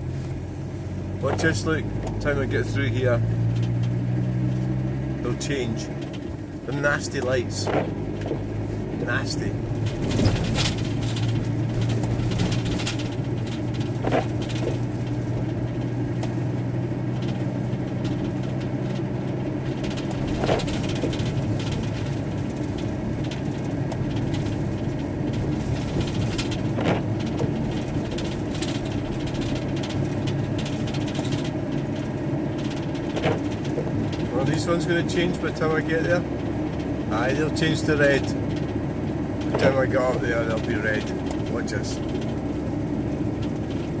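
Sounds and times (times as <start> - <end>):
road and tyre noise: 0.0 - 44.0
van engine hum: 0.0 - 44.0.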